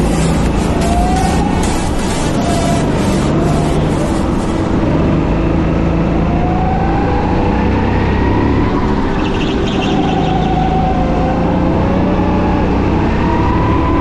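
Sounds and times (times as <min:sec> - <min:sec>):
go-kart engine revving: 0:00.0 - 0:14.0.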